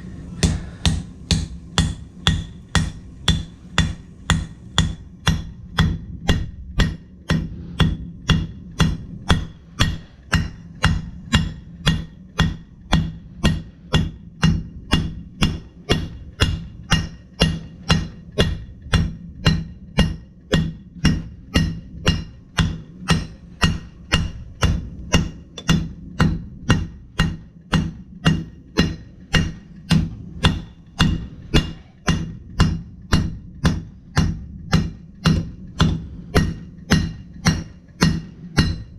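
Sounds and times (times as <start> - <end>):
hammer striking steel on anvil: 0.0 - 38.9
steady low hum: 0.0 - 38.9.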